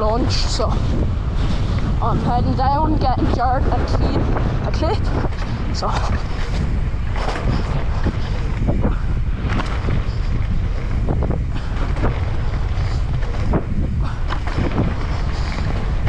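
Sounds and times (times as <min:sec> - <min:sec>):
bike knocks and rattles: 0:00.0 - 0:16.0
wind buffeting microphone: 0:00.0 - 0:16.0.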